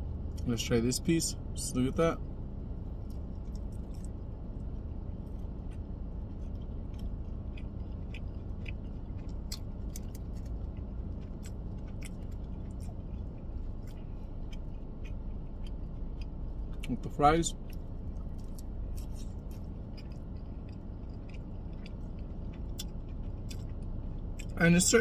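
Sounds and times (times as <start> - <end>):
low hum: 0.0 - 25.0
person chewing: 2.9 - 24.6.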